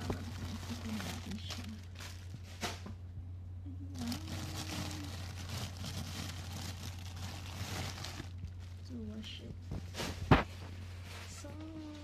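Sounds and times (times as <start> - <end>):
plastic bags rustling: 0.0 - 3.0, 3.9 - 12.0.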